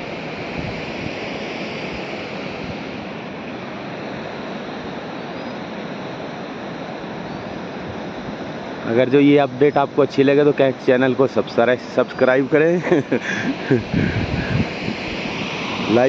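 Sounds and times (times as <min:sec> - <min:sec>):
steady rushing outdoor noise: 0:00.0 - 0:16.0.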